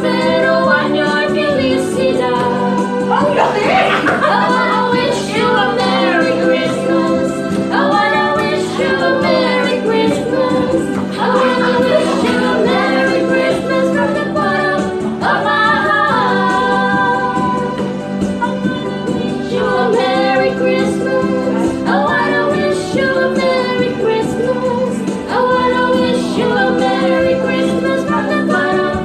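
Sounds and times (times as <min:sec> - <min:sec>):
women singing together: 0:00.0 - 0:29.0.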